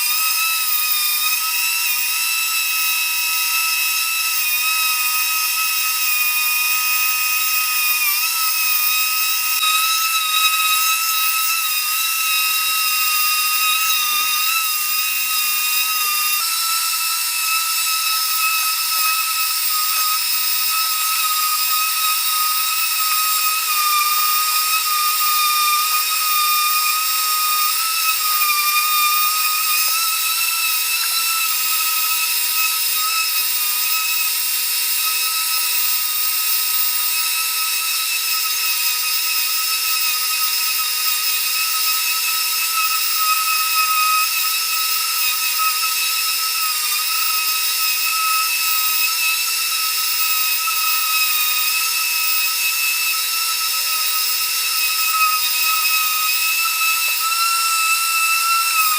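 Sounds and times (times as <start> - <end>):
orbital sander motor whine: 0.0 - 58.9.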